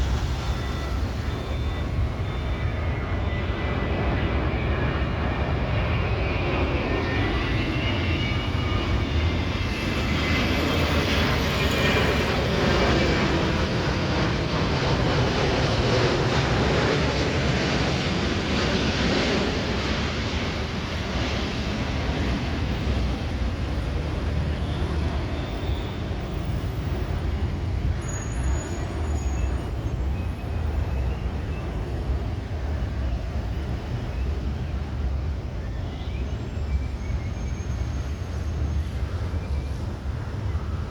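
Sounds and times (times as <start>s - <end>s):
jet airliner flying past: 0.0s - 40.9s.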